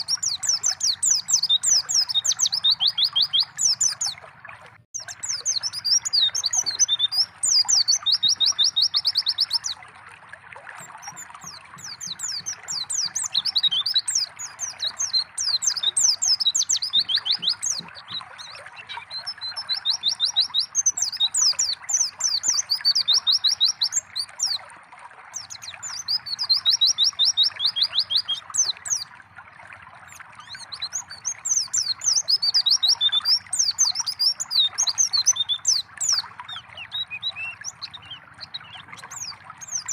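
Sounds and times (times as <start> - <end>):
bird chirping and trilling: 0.0 - 4.3, 5.0 - 9.8, 10.8 - 24.6, 25.3 - 29.1, 30.1 - 39.9
trickle of water: 0.0 - 39.9.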